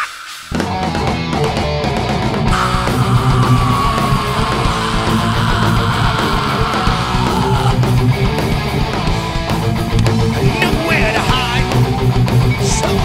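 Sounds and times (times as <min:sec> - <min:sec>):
guitar note sliding down: 0:00.0 - 0:12.2
heavy metal band playing live: 0:00.0 - 0:13.0.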